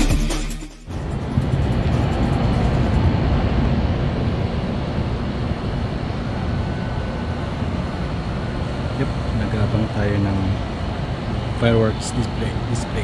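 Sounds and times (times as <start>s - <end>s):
city background rumble: 0.9s - 13.0s.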